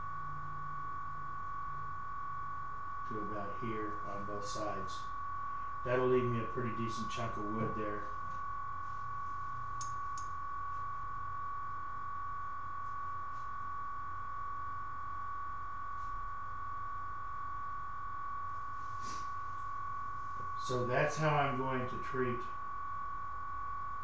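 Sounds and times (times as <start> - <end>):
high-pitched electrical whine: 0.0 - 24.0
low hum: 0.0 - 24.0.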